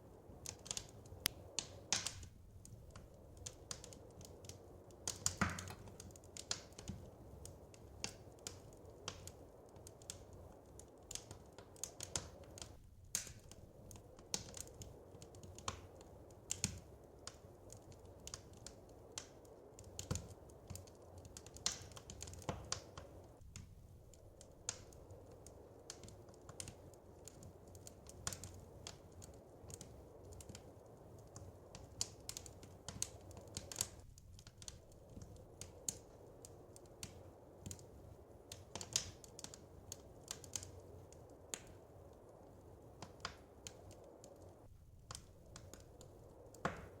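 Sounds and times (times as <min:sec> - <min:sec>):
steady low hiss: 0:00.0 - 0:47.0
wood fire crackling and popping: 0:00.0 - 0:47.0.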